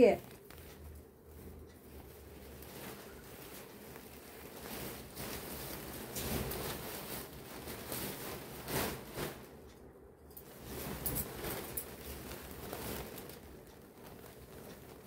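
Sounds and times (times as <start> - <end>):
silk fabric rustling: 0.0 - 9.8, 10.4 - 15.0.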